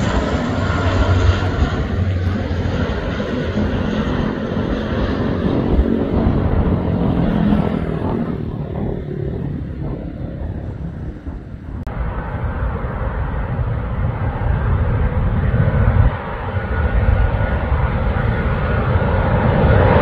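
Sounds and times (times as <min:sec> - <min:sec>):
outdoor background noise: 0:00.0 - 0:20.0
turboprop aircraft droning: 0:00.0 - 0:20.0.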